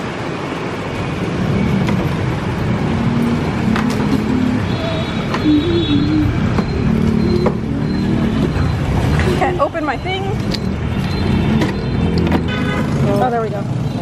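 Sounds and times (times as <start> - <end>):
motorbike and scooter engines: 0.0 - 14.0
street traffic: 0.0 - 14.0.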